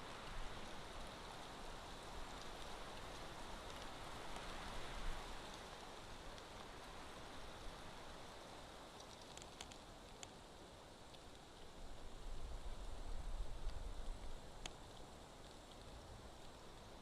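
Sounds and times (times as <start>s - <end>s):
faint outdoor hiss: 0.0s - 17.0s
faint ticks: 0.2s - 7.8s, 8.4s - 17.0s.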